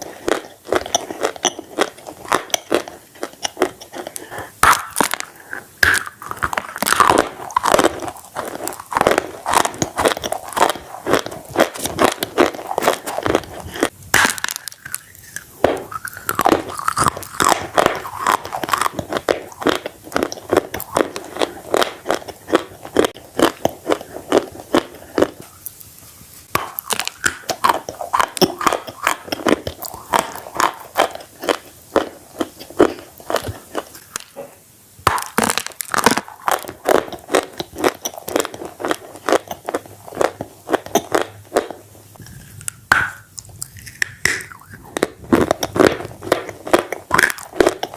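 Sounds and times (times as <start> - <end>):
crunchy wet chewing: 0.0 - 34.4, 35.1 - 47.9.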